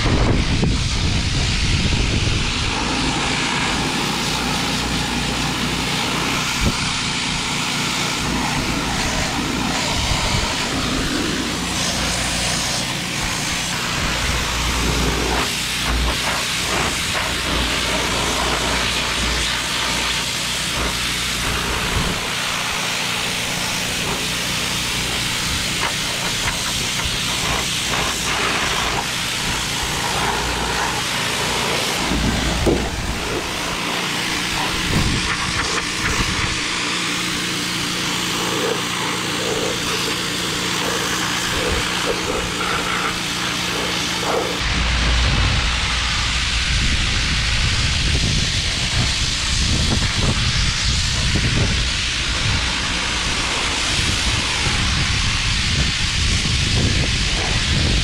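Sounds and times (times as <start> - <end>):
low machine hum: 0.0 - 54.7
pressure washer jet on metal: 0.0 - 58.0.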